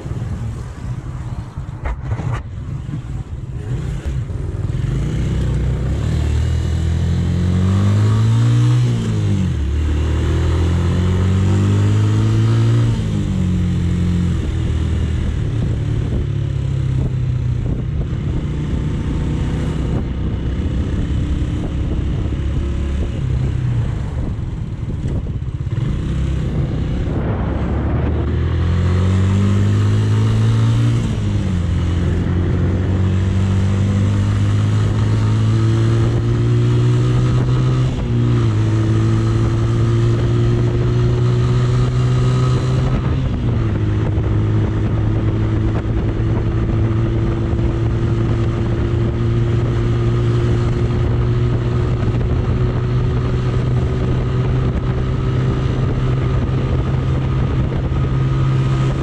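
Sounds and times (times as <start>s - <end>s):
motorcycle engine accelerating: 0.0s - 59.0s
road and wind rush: 0.0s - 59.0s.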